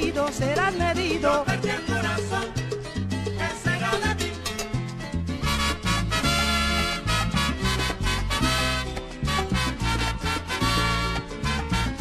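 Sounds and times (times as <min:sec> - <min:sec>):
bass line: 0:00.0 - 0:12.0
salsa music: 0:00.0 - 0:12.0.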